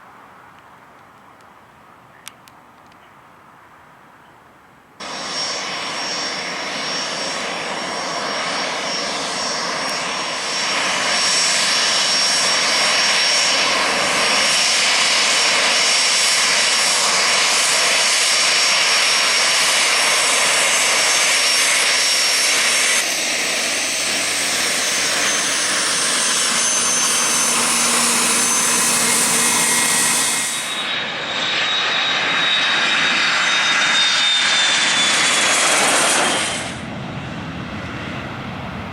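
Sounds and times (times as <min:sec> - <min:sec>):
high jet engine whine: 0:05.0 - 0:38.9
jet engine noise: 0:05.0 - 0:38.9.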